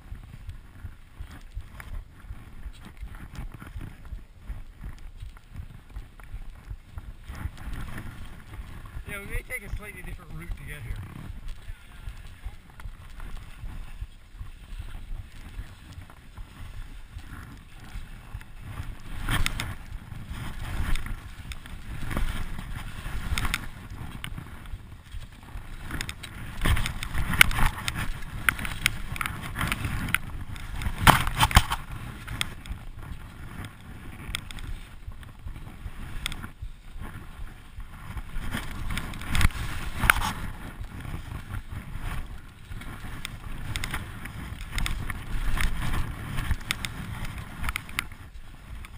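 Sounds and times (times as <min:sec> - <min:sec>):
skis scraping over packed snow: 0:00.0 - 0:48.9
wind on microphone: 0:00.0 - 0:48.9.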